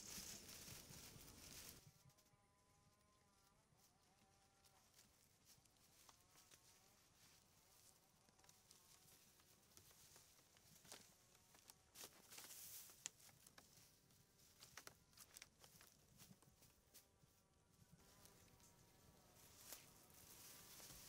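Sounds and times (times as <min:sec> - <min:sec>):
soft rustle: 0:00.0 - 0:21.0.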